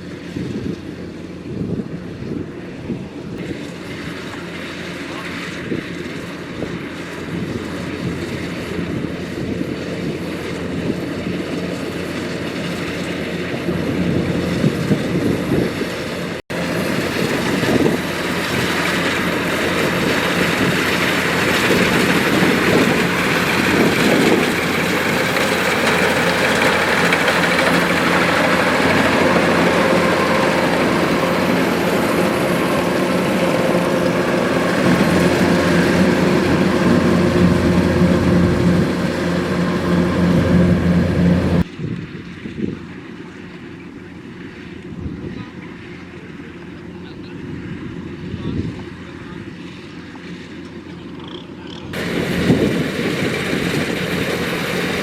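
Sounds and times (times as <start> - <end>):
combine harvester droning: 0.0 - 55.0.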